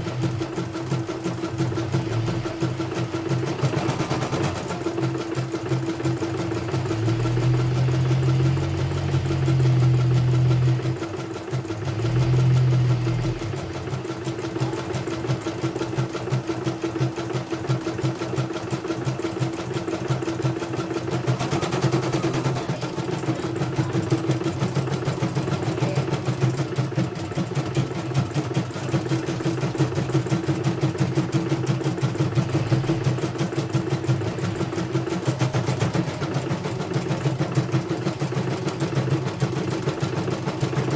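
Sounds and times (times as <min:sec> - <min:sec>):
deep machine hum: 0:00.0 - 0:16.5, 0:20.1 - 0:40.9.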